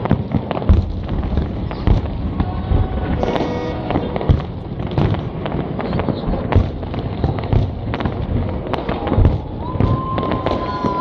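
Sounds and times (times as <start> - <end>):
fireworks bangs and crackles: 0.0 - 11.0
fireworks pops: 0.0 - 11.0.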